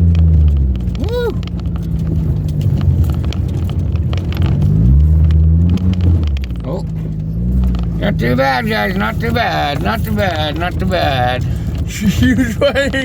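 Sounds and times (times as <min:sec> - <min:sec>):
knocks and rattles on rough trail: 0:00.0 - 0:13.0
truck engine: 0:00.0 - 0:13.0.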